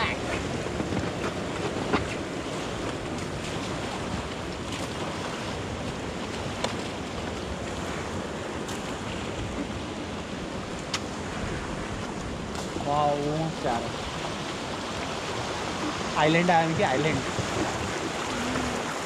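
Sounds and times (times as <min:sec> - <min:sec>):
river water rushing: 0:00.0 - 0:19.0
wind noise on microphone: 0:00.0 - 0:19.0.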